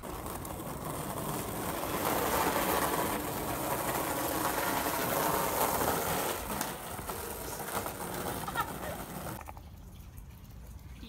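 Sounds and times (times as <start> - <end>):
skateboard wheels rolling on asphalt: 0.0 - 9.8.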